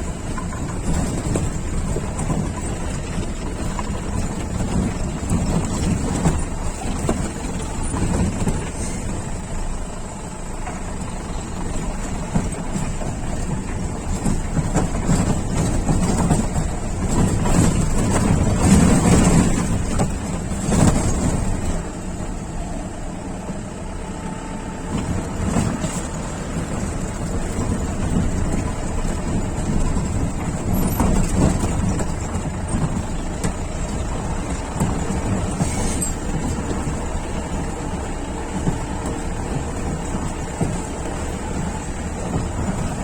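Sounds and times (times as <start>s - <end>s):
knocks and rattles: 0.0s - 9.5s, 10.6s - 22.0s, 24.9s - 43.0s
off-road vehicle engine under load: 0.0s - 43.0s.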